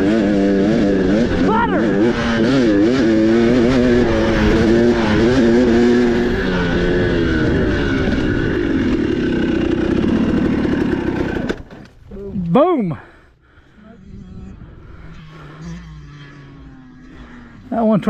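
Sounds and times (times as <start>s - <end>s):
dirt bike engine revving: 0.0s - 11.9s, 13.7s - 18.0s.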